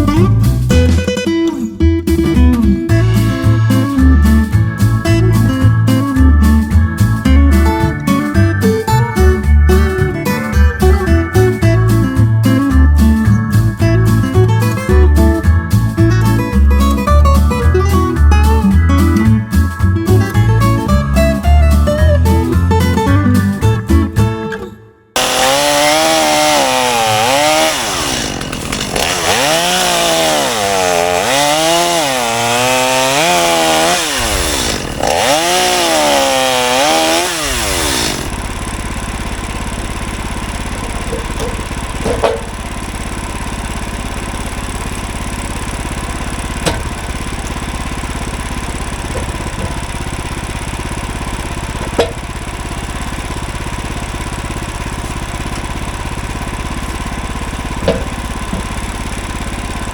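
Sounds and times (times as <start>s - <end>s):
sawmill gas engine running: 3.0s - 22.6s, 25.2s - 59.9s.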